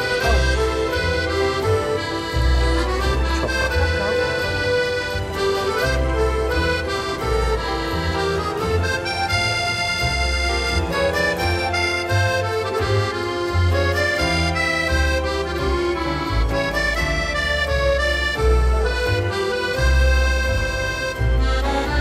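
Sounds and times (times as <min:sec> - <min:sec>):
accordion music: 0:00.0 - 0:22.0
pulsing bass line: 0:00.0 - 0:22.0.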